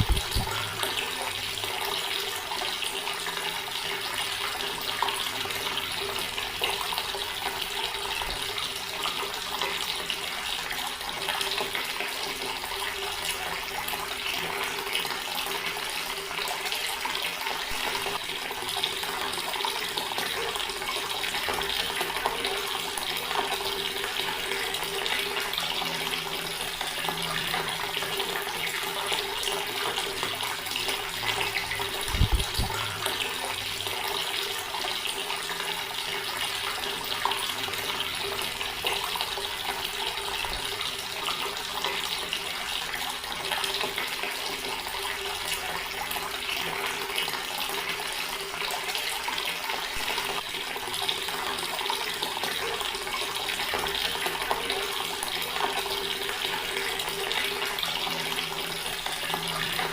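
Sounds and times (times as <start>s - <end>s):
tap water splashing into basin: 0.0s - 59.9s.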